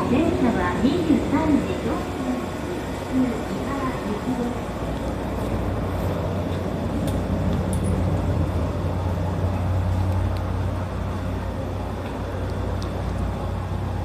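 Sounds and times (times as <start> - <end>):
train carriage hum and rumble: 0.0 - 14.0.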